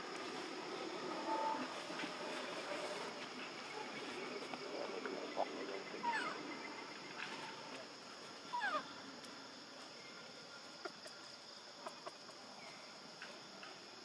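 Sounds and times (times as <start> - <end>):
steady high hiss: 0.0 - 11.5.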